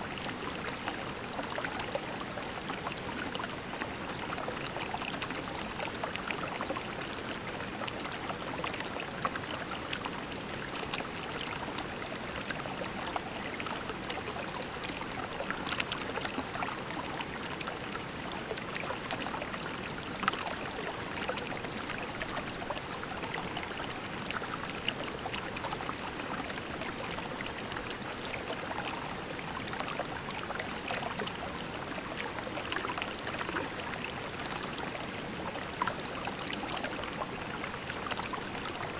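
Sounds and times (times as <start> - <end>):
creek flowing over pebbles: 0.0 - 38.9.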